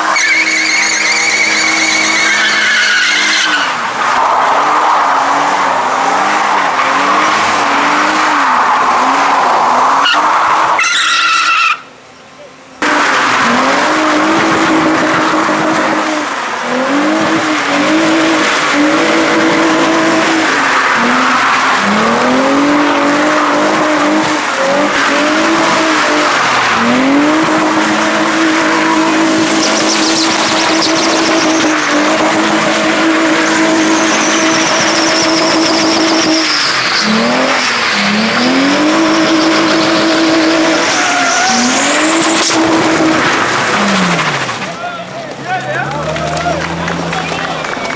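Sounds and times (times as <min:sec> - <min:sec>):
tyres squealing: 0:00.0 - 0:13.6, 0:17.0 - 0:47.9
car engine revving: 0:00.0 - 0:47.9.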